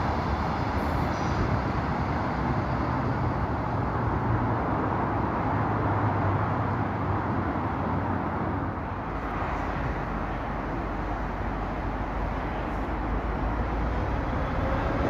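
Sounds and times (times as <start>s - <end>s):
diesel train humming: 0.0s - 15.0s
outdoor noise: 0.0s - 15.0s.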